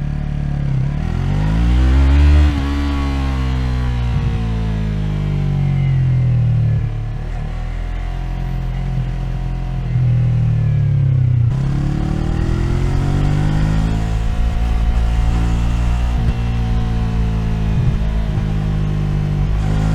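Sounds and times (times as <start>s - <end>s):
motorcycle engine under load: 0.0s - 19.9s.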